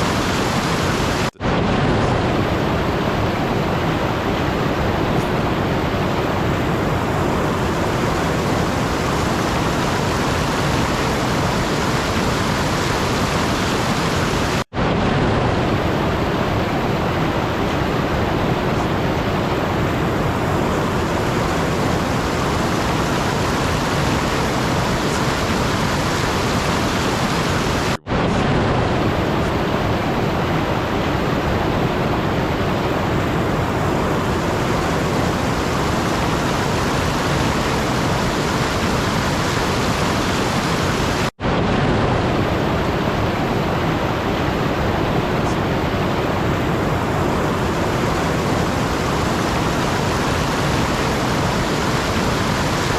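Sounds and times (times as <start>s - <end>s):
steady rushing noise: 0.0s - 52.9s.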